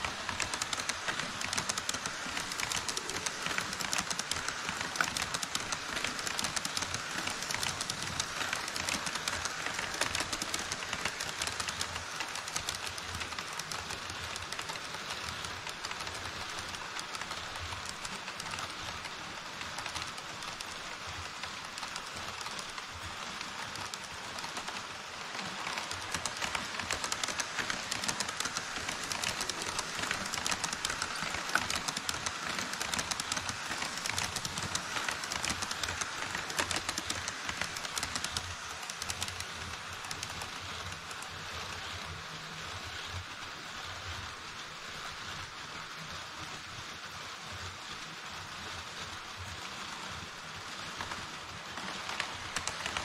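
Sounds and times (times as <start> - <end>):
model train wheels rattling on rails: 0.0 - 53.0.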